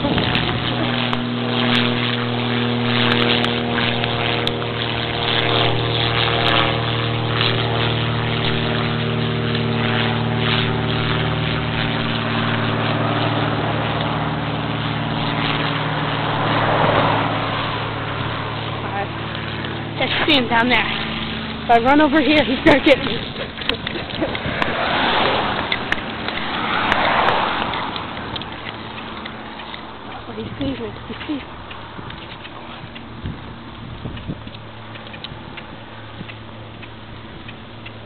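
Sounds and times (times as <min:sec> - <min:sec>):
engine drone: 0:00.0 - 0:38.0.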